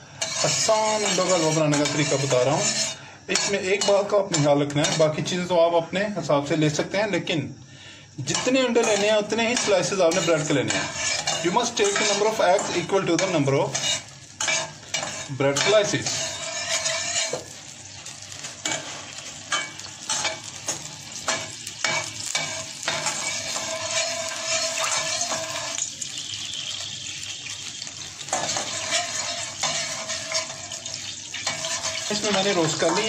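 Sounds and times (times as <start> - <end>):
pods sizzling in hot fat: 0.0 - 5.5, 8.0 - 33.0.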